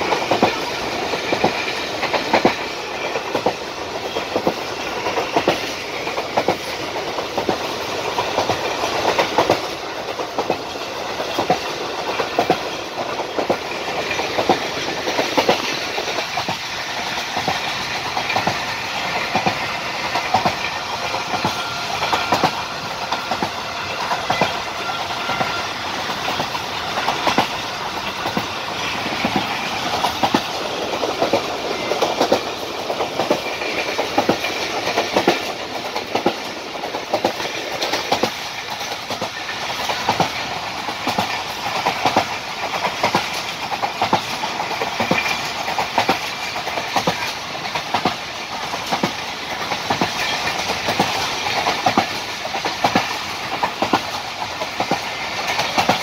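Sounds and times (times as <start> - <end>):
train carriages rumbling: 0.0 - 56.0
wheels clacking over rail joints: 0.0 - 56.0.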